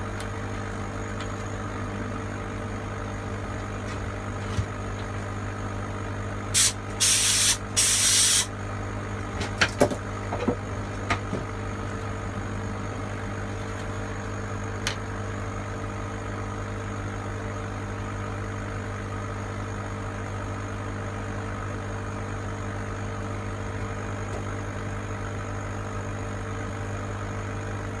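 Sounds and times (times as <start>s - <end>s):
laser cutter fans humming: 0.0s - 28.0s.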